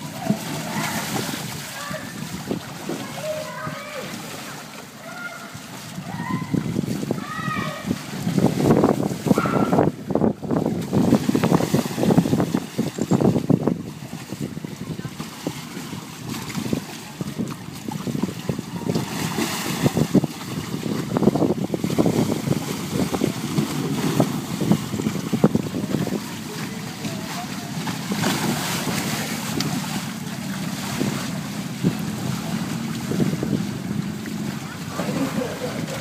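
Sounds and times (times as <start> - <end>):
water sloshing: 0.0 - 36.0.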